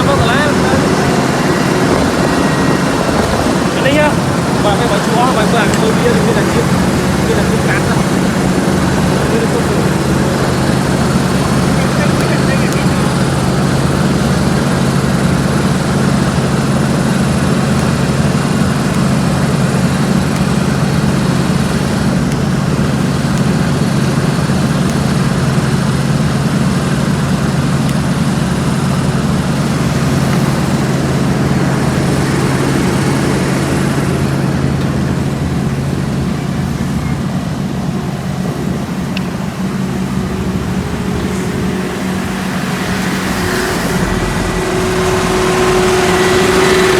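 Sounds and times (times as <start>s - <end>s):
diesel engine humming: 0.0s - 46.9s.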